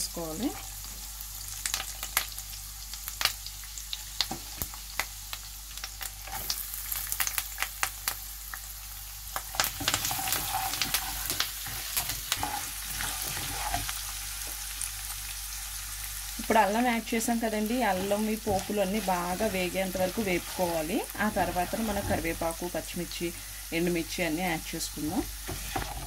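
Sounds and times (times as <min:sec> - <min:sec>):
hot oil sizzling with pops: 0:00.0 - 0:26.0.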